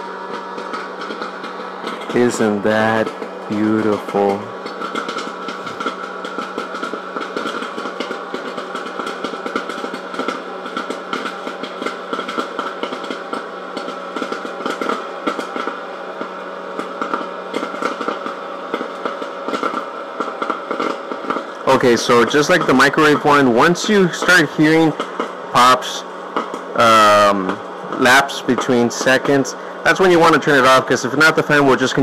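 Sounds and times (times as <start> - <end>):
fan motor whirring: 0.0 - 32.0
popcorn popping: 0.0 - 32.0.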